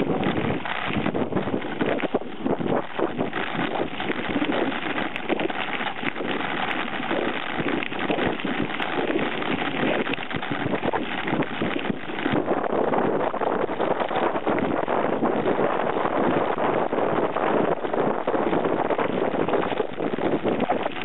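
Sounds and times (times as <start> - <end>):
bike rattling over rough ground: 0.0 - 21.0
wind noise on microphone: 0.0 - 21.0.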